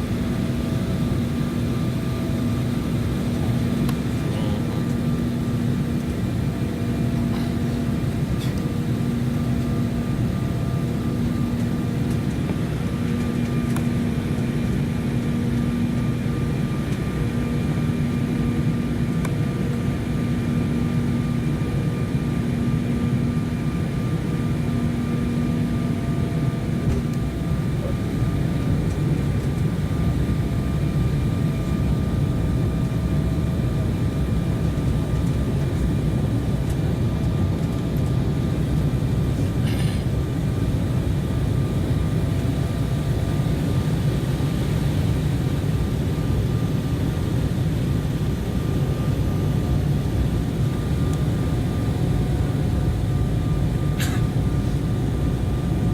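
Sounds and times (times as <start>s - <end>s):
airliner engines and airflow roar: 0.0s - 55.9s.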